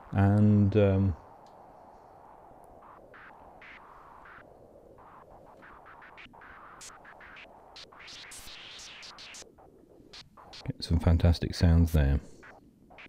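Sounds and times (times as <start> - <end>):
synthesizer filtered noise hiss: 0.0 - 13.0.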